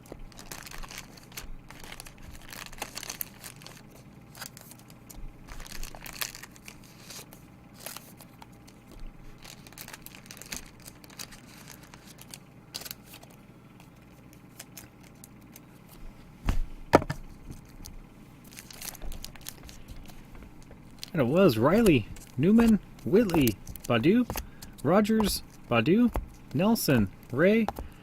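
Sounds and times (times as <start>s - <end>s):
plastic packaging rustling: 0.0s - 15.9s, 17.4s - 28.0s.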